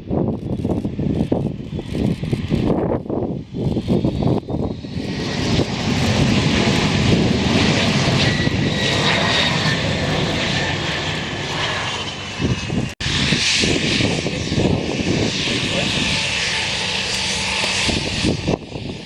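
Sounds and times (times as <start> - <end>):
airplane engines roaring: 0.0 - 19.0.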